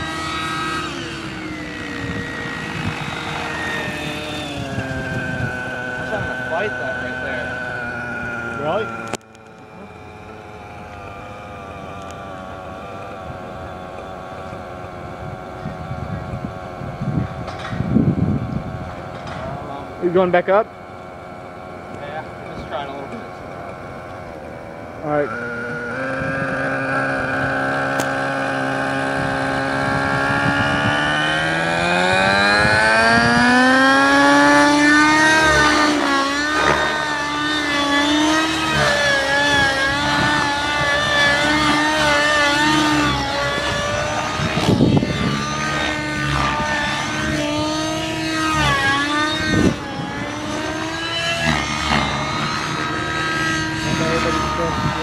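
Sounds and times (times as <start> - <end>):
rc helicopter engine and rotor: 0.0 - 55.0.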